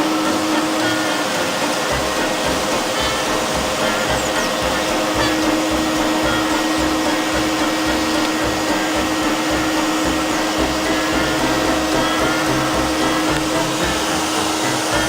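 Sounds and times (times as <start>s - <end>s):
vacuum motor humming: 0.0s - 15.0s.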